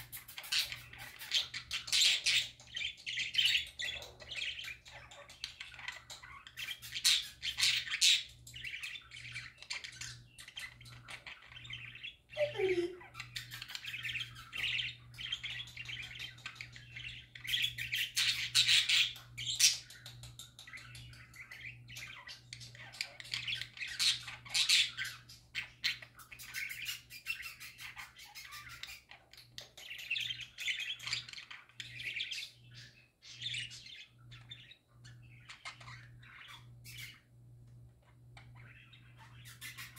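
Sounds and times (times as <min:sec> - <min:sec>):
budgerigars chattering and warbling: 0:00.0 - 0:37.4, 0:38.0 - 0:39.9.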